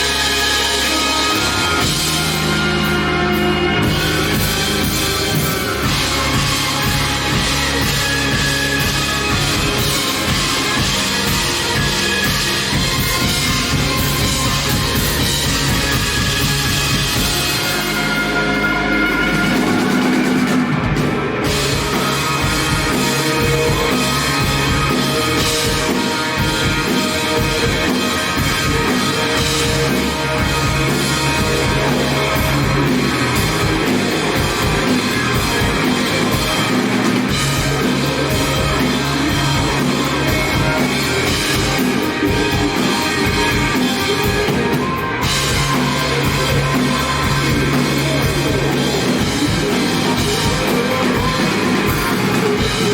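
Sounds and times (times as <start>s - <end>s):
bass: 0.0s - 52.9s
drum kit: 0.0s - 52.9s
electric guitars: 0.0s - 52.9s.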